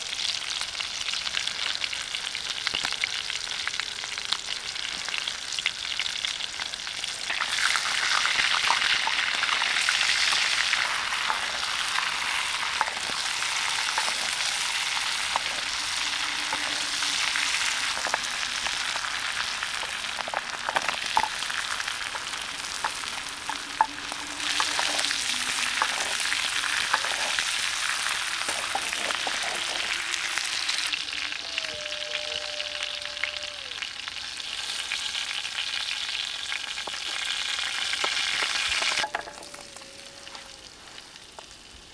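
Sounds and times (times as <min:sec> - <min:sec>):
food sizzling with pops: 0:00.0 - 0:41.9.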